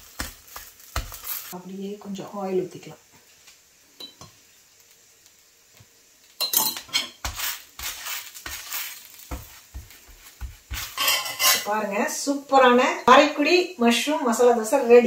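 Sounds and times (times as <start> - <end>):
faint sizzle in oil: 0.0 - 15.0.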